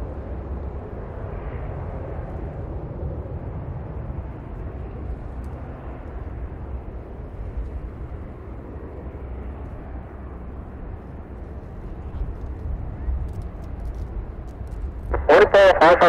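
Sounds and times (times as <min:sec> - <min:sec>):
wind buffeting microphone: 0:00.0 - 0:15.3
jet engines roaring: 0:00.0 - 0:16.0.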